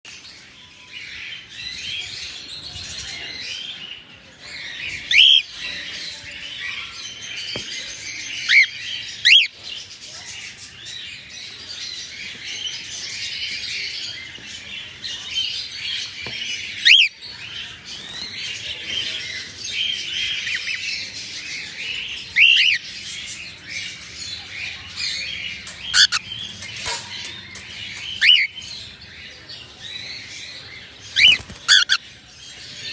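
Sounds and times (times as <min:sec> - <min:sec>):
cockatiels chattering: 0:04.6 - 0:32.9.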